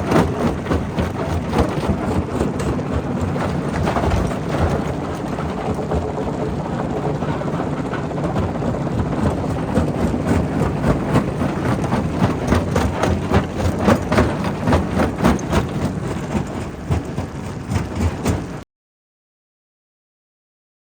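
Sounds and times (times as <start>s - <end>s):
rock crusher rumbling: 0.0s - 18.6s.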